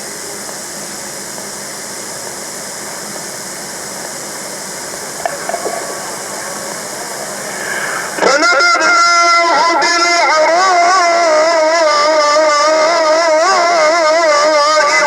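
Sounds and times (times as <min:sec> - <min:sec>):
recording hiss: 0:00.0 - 0:15.0.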